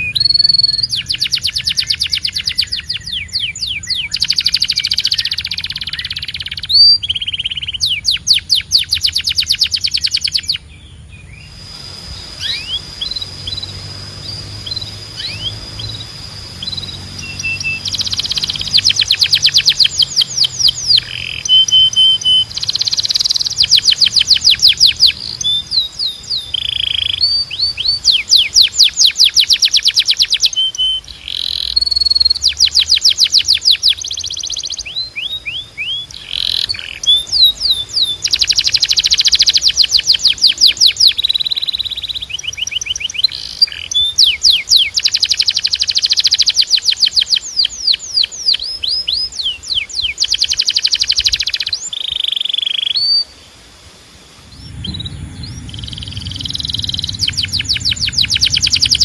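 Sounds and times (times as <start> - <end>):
canary singing: 0.0 - 11.5, 12.4 - 53.3, 54.4 - 59.0.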